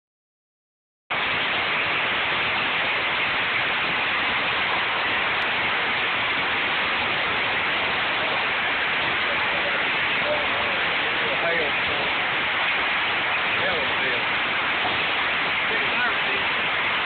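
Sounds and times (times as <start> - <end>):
hail and heavy rain: 1.1 - 17.0.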